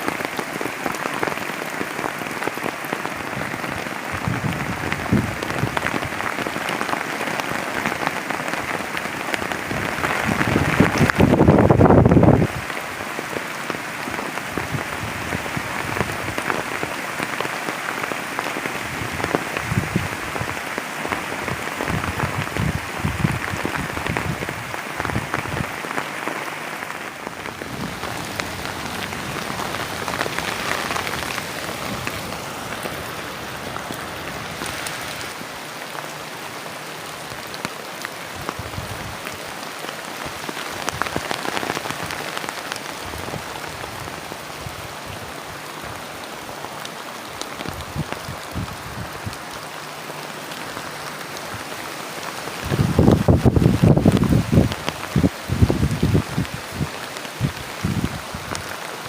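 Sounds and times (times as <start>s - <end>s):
heavy rain pouring: 0.0s - 59.0s
raindrops pattering on a surface: 0.0s - 59.0s.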